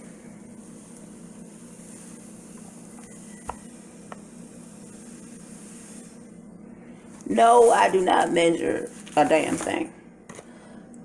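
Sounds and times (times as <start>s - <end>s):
low room tone hum: 0.0s - 11.0s.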